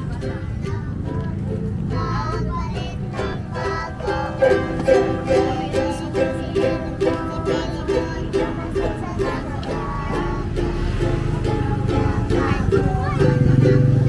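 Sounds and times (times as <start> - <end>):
low background rumble: 0.0 - 14.0
plucked string instrument music: 0.0 - 14.0.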